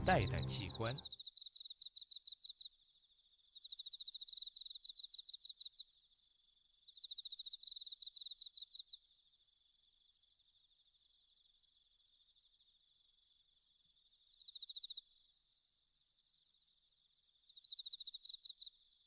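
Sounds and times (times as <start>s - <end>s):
crickets chirping: 1.5s - 19.0s.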